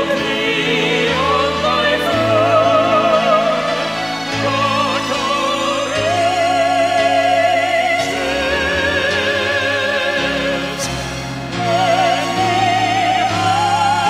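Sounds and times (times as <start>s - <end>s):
sustained chord accompaniment: 0.0s - 14.0s.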